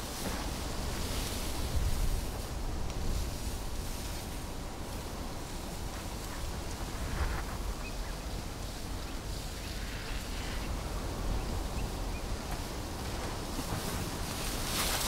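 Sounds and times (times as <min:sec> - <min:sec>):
steady outdoor hiss: 0:00.0 - 0:15.0
wind rumbling on microphone: 0:00.0 - 0:15.0.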